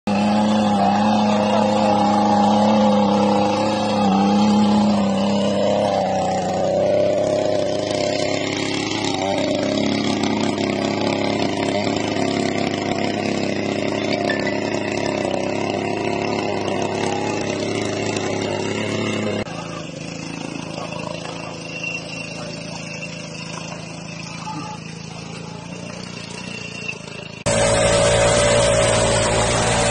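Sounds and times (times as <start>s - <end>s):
small gasoline engine running: 0.0s - 29.9s
tines churning mud: 0.1s - 29.9s.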